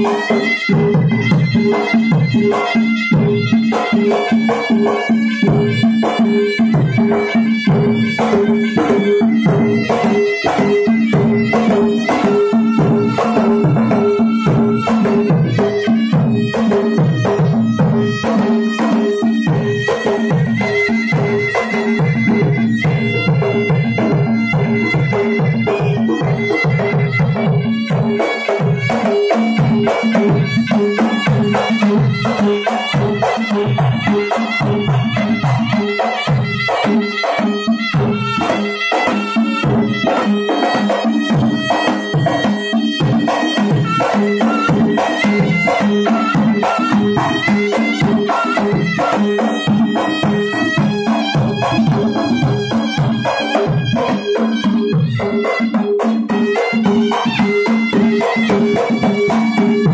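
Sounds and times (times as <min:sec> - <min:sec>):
hand drums in fast strokes: 0:00.0 - 0:59.9
reedy wind instrument melody: 0:00.0 - 0:59.9.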